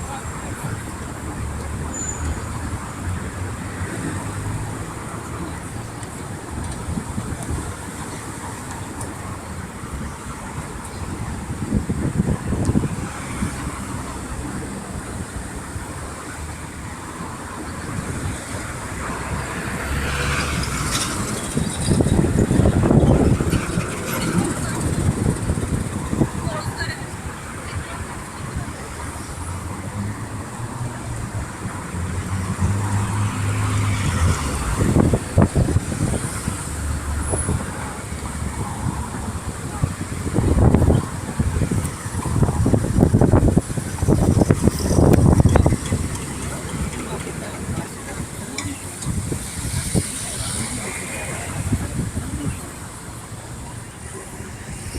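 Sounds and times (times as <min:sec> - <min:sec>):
road vehicle rumble: 0:00.0 - 0:54.9.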